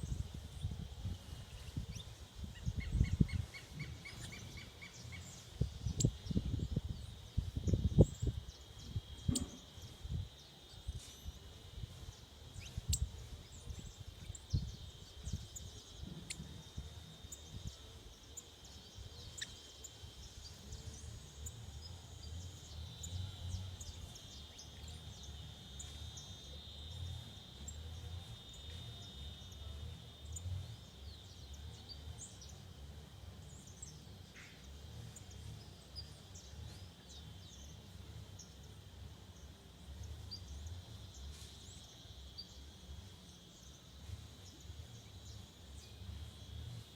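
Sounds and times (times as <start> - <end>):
bird chirps: 0.0 - 46.6
high-pitched insect drone: 0.0 - 46.9.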